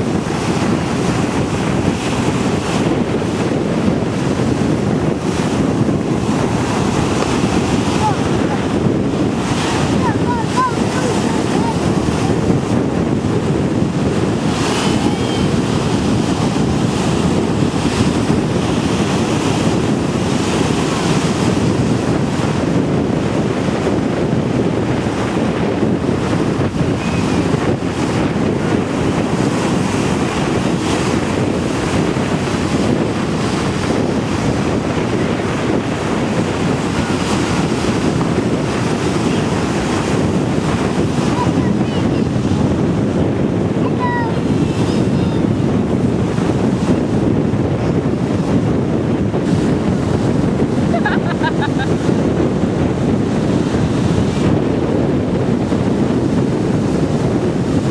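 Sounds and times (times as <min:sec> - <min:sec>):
ocean surf breaking: 0:00.0 - 0:57.9
wind buffeting microphone: 0:00.0 - 0:57.9.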